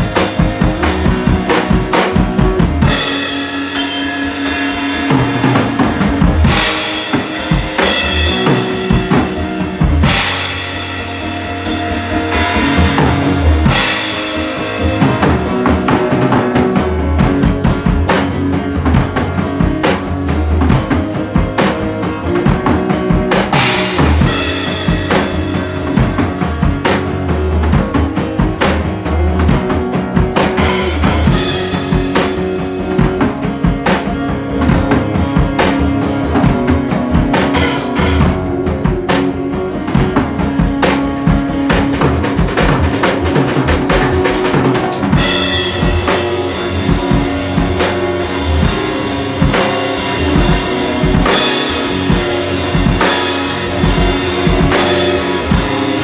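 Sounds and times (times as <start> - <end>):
sustained guitar notes: 0.0 - 28.1, 28.9 - 56.0
drum kit beat with rimshots: 0.0 - 56.0.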